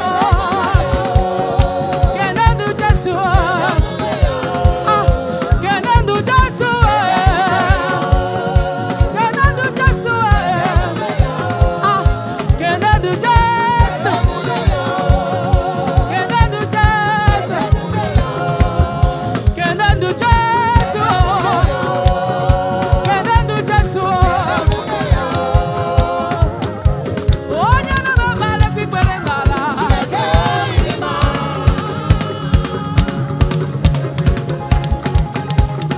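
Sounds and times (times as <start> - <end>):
band with driving drum beat: 0.0 - 35.9
gospel choir singing: 0.0 - 35.9.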